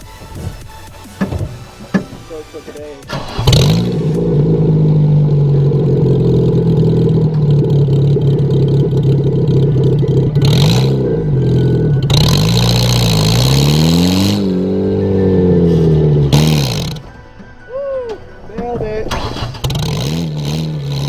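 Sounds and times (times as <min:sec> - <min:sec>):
car engine revving: 0:00.0 - 0:21.0
loud hissing: 0:00.0 - 0:21.0.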